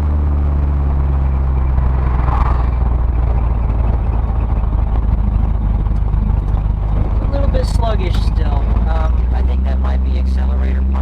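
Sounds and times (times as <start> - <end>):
car engine low rumble: 0.0 - 11.0
road noise: 0.0 - 11.0.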